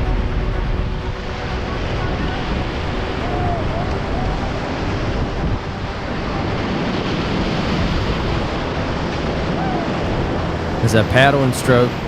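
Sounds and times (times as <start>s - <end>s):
river rapids rushing: 0.0s - 12.0s
wind on microphone: 0.0s - 12.0s.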